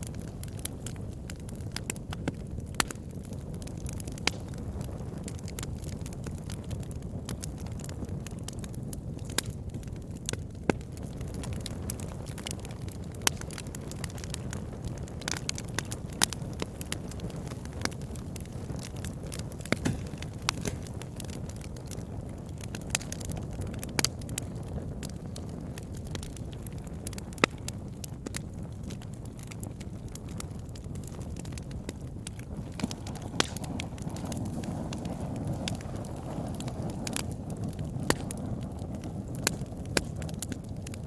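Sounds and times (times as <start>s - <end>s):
burning wood crackling and popping: 0.0s - 41.0s
campfire flames rumbling: 0.0s - 41.0s.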